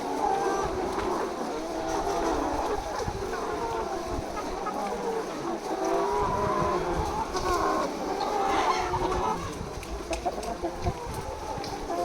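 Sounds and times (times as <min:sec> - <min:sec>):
chickens clucking and cheeping: 0:00.0 - 0:12.0.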